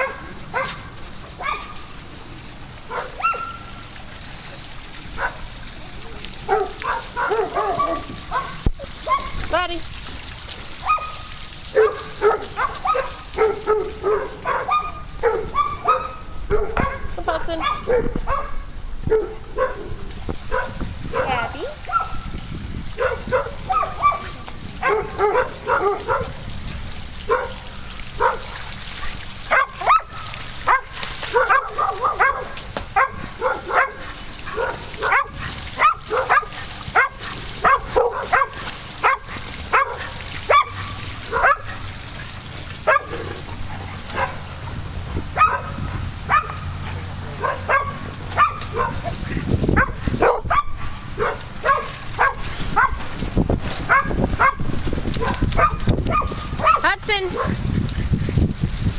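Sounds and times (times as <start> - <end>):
dogs barking and yipping: 0.0 - 9.7, 10.5 - 26.5, 27.2 - 58.2.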